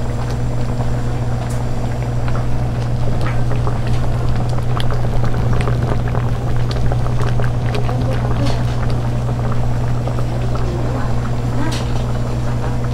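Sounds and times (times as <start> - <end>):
food bubbling and crackling: 0.0 - 12.9.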